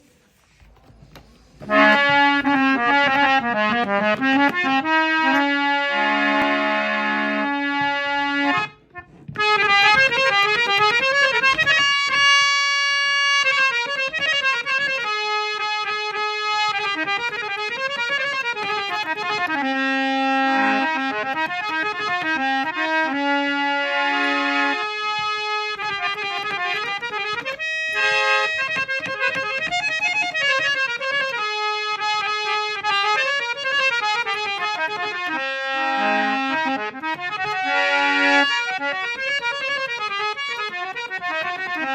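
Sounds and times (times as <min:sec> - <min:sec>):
harmonium melody: 0:00.0 - 0:41.9.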